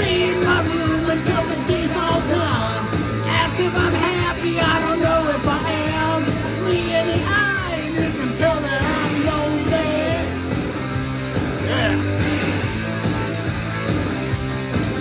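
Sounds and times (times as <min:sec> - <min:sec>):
rock song from a record: 0:00.0 - 0:15.0.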